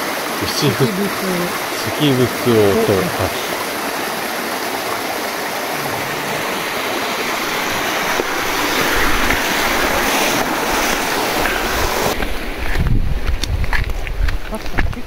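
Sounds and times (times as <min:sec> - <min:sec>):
mountain stream rushing: 0:00.0 - 0:14.3.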